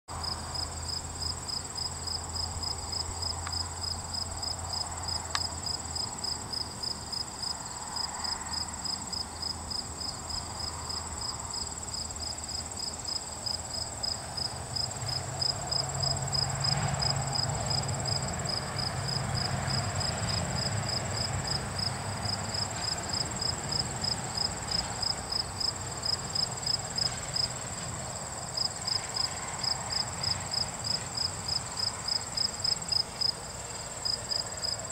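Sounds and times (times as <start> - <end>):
insects chirping: 0.2 - 34.9.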